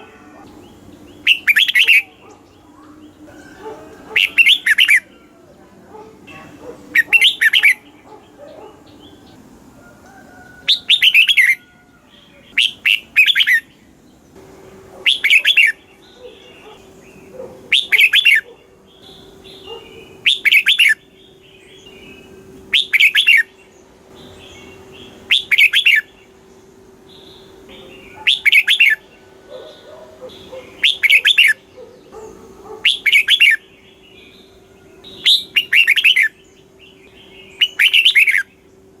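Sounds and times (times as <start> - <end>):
bird singing warbled phrases: 0.0 - 39.0
faint steady hum: 0.0 - 39.0.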